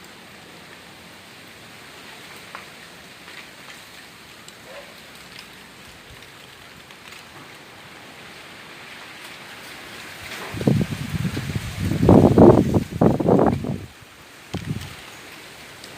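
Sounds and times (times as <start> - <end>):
rain falling: 0.0 - 15.9
ticks of raindrops: 0.0 - 15.9.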